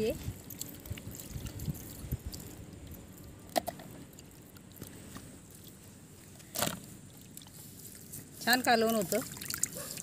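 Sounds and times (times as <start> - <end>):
wet handling of fish: 0.1 - 10.0.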